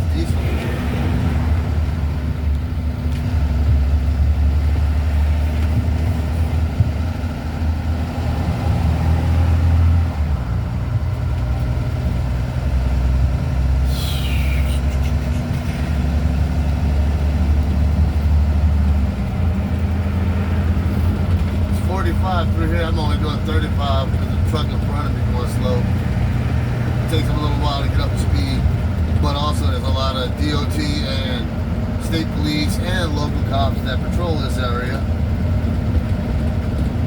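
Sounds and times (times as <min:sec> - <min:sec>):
vehicle engine drone and road noise: 0:00.0 - 0:37.0.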